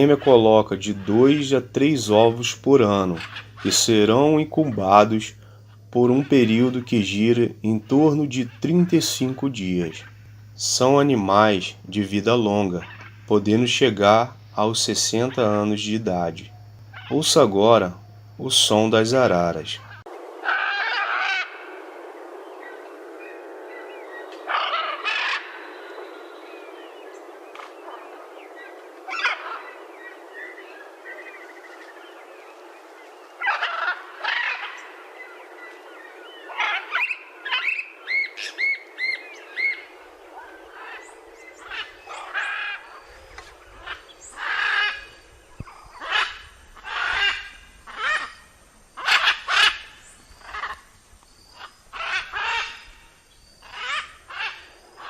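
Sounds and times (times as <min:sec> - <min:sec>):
macaws squawking: 0:00.0 - 0:21.9, 0:22.5 - 0:32.1, 0:33.3 - 0:55.0.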